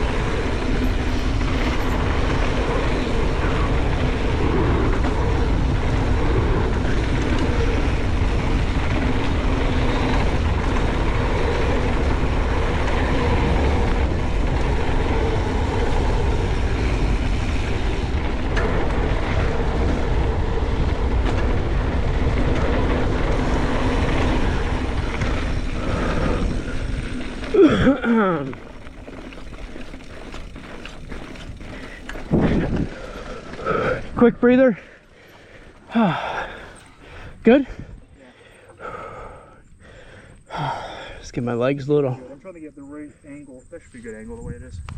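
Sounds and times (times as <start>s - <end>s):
wind rushing over microphone: 0.0s - 41.5s, 43.7s - 44.9s
bike tyres rumbling over dirt: 0.0s - 44.9s.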